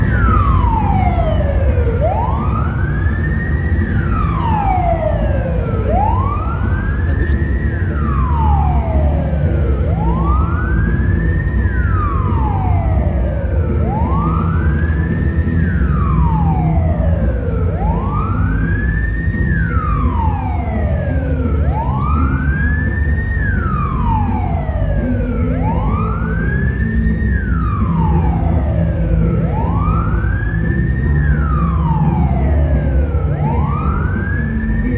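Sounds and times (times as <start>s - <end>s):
ambulance siren wailing: 0.0s - 34.9s
low vehicle rumble: 0.0s - 34.9s.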